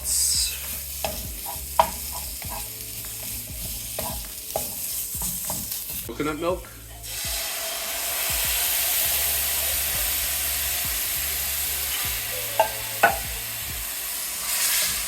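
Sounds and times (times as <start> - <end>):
curry paste sizzling in a pan: 0.0 - 15.0.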